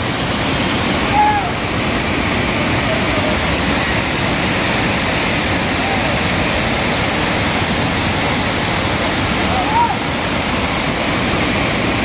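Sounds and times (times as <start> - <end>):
waterfall and rapids rushing: 0.0 - 12.0.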